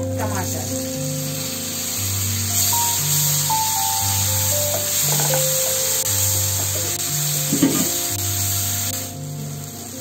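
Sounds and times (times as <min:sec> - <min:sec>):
food sizzling in a pan: 0:00.0 - 0:10.0
soft background music: 0:00.0 - 0:10.0.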